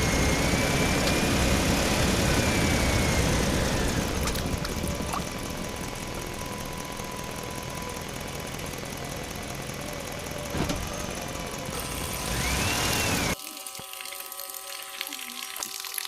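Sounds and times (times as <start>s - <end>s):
engine-driven water pump running: 0.0s - 16.0s.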